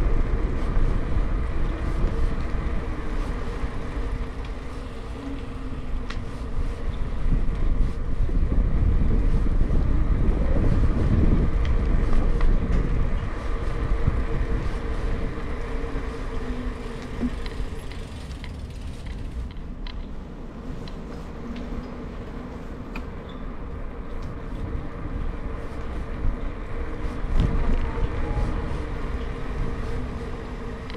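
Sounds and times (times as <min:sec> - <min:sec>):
street rumble: 0:00.0 - 0:30.9.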